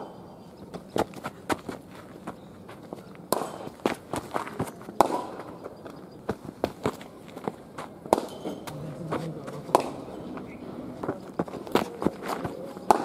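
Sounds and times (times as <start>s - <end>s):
cricket balls striking bats: 0.0s - 13.0s.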